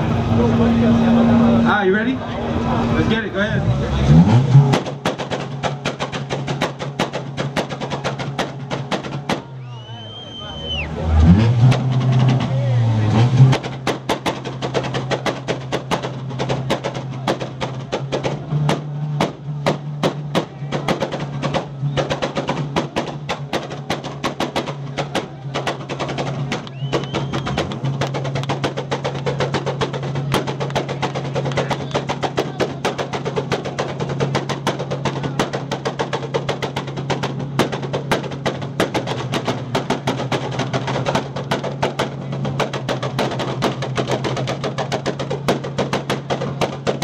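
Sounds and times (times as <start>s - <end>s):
car engine at high revs: 0.0s - 47.0s
exhaust pops and crackles: 0.0s - 47.0s.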